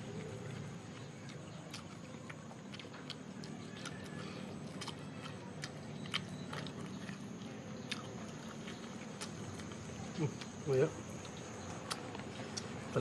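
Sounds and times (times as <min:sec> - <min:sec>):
person chewing meat: 0:00.0 - 0:12.9.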